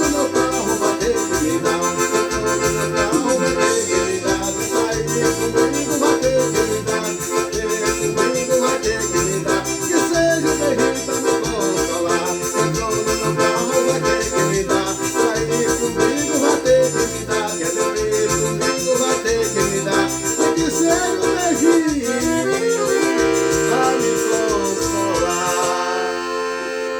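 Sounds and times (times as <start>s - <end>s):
bass and drum beat: 0.0s - 25.8s
accordion playing: 0.0s - 26.9s.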